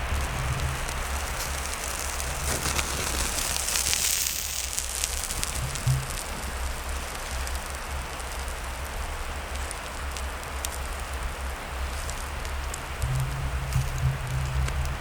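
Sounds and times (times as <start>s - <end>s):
fire crackles: 0.0s - 15.0s
food sizzling: 0.0s - 15.0s
low uneven rumble: 0.0s - 15.0s.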